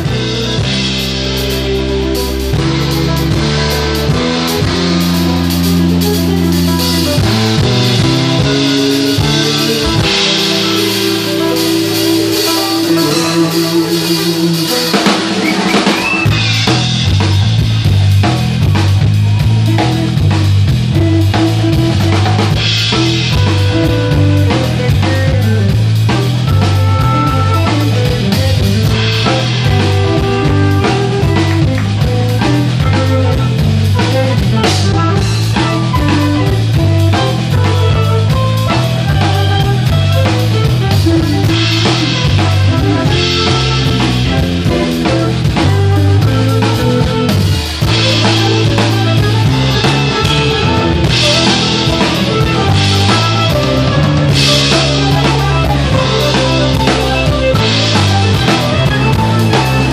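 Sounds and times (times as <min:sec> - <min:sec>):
bass line: 0:00.0 - 0:59.9
drum kit groove: 0:00.0 - 0:59.9
electric guitar: 0:00.0 - 0:59.9
rock band playing loudly: 0:00.0 - 0:59.9.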